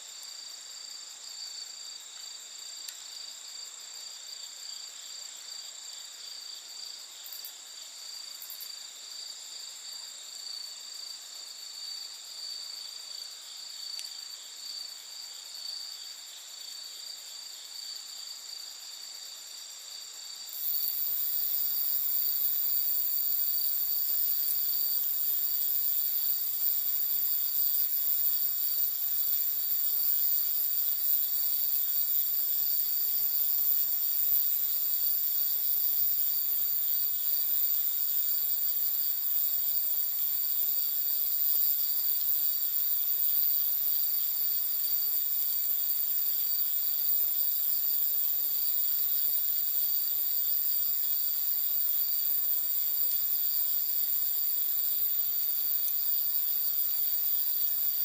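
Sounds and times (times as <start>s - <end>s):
night insects chirring: 0.0s - 58.0s.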